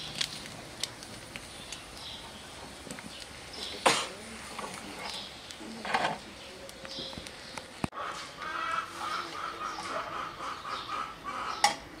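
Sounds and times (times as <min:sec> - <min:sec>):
chickens clucking: 0:02.2 - 0:12.0.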